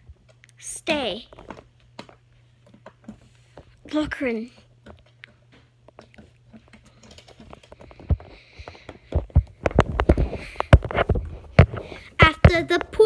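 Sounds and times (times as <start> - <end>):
toys clicking and knocking: 1.3 - 13.0.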